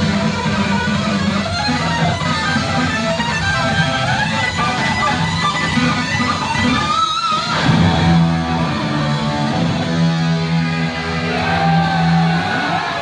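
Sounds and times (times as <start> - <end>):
heavy metal band playing: 0.0 - 13.0.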